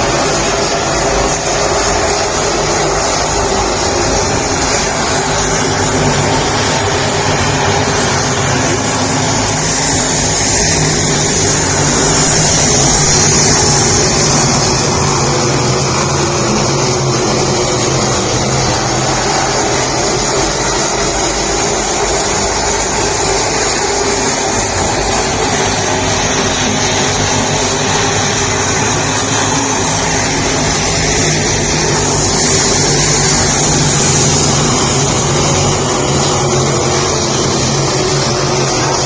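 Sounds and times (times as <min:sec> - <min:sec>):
race car engines droning: 0:00.0 - 0:39.0.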